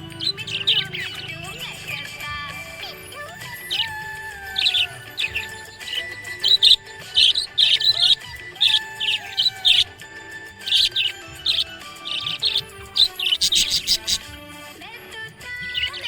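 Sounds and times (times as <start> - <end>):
budgerigar chirping: 0.0 - 14.4, 15.6 - 16.0
background music with held notes: 0.0 - 16.0.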